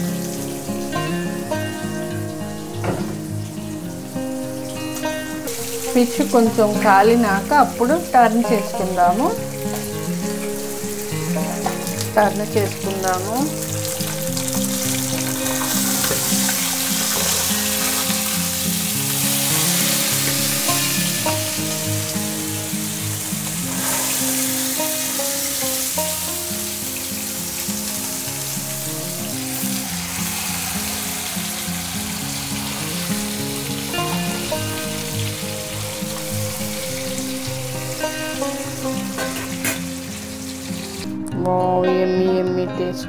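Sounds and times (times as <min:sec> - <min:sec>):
fish frying in oil: 0:00.0 - 0:41.1.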